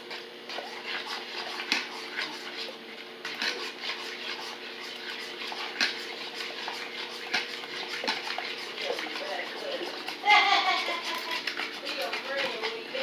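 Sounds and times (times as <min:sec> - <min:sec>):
spoon scraping a saucepan: 0:00.0 - 0:13.0.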